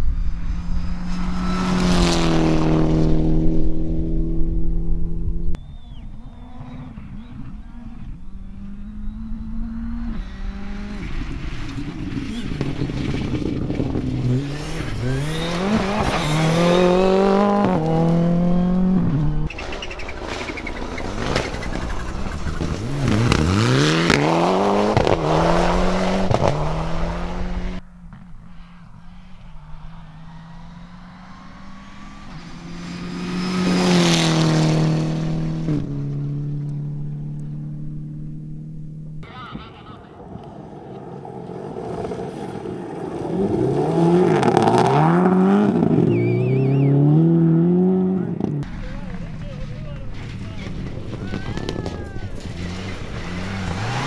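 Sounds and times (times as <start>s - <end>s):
cars passing at speed: 0.0s - 5.4s, 6.1s - 54.0s
rally car engines revving: 0.1s - 54.0s.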